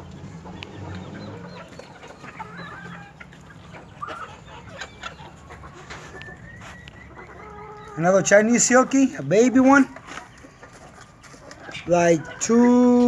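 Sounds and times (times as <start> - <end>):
chickens clucking: 0.0 - 13.0
chicks peeping: 0.0 - 13.0.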